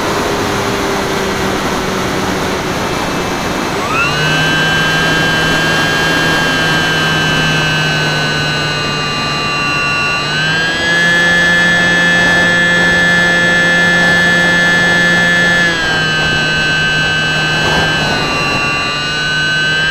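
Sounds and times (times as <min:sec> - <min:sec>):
electric motor and propeller whining: 0:00.0 - 0:19.9
wind rushing over microphone: 0:00.0 - 0:19.9.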